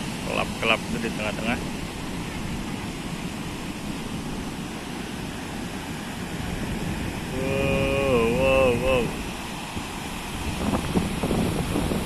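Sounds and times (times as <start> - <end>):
sea surf: 0.0 - 12.0
strong wind on microphone: 0.0 - 12.0.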